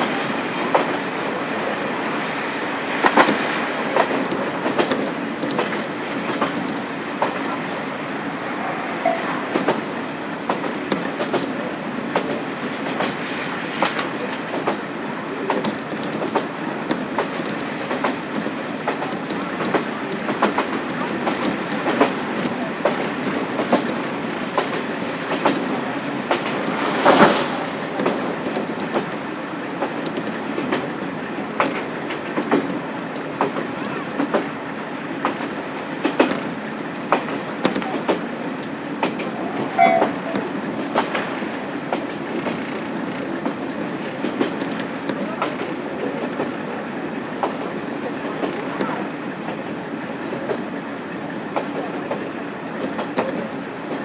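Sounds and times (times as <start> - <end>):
railcar rolling rumble: 0.0 - 54.0
wheels clacking over rail joints: 3.0 - 7.6, 9.0 - 54.0.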